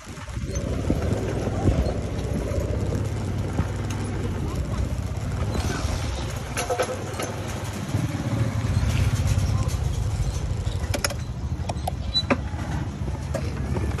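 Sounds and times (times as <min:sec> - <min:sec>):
motor scooter engine running: 0:00.0 - 0:12.0.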